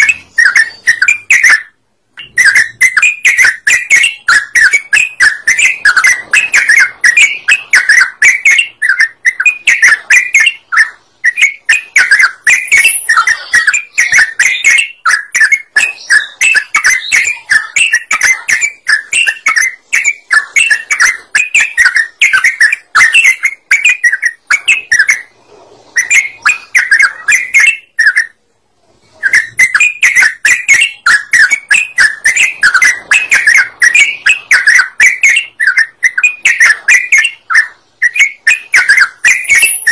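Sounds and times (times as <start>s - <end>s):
bird singing chirpy song: 0.0s - 28.4s, 29.1s - 39.9s.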